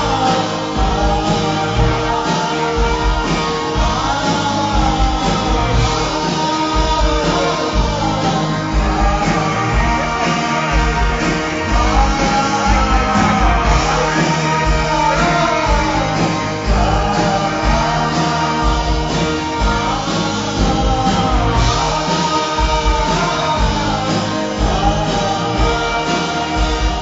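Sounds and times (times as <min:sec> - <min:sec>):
electric and acoustic guitars: 0:00.0 - 0:27.0
keyboard: 0:00.0 - 0:27.0
man singing lead vocal: 0:00.0 - 0:27.0
steady drum beat: 0:00.0 - 0:27.0.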